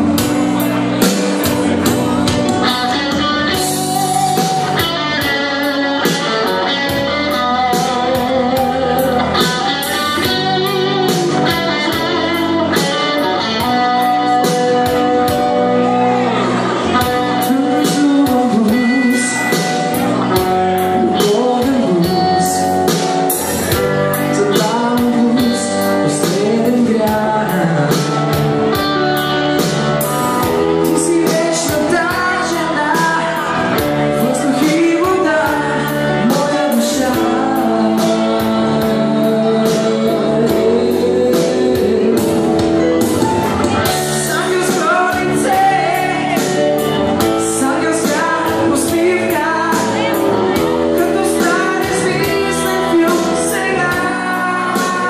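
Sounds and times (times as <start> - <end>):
drums and cymbals beat: 0.0 - 15.6, 17.0 - 55.0
man singing into a microphone: 0.0 - 29.7, 30.4 - 55.0
live band playing: 0.0 - 55.0.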